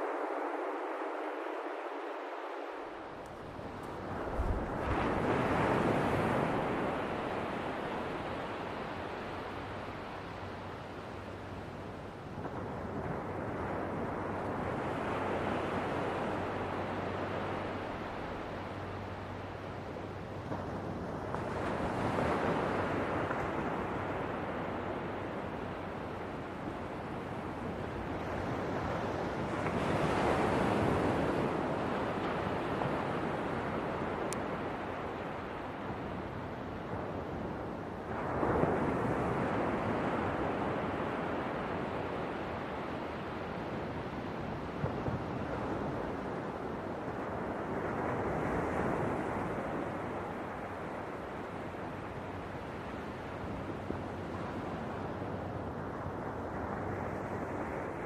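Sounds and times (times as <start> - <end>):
ocean waves washing ashore: 0.0 - 58.0.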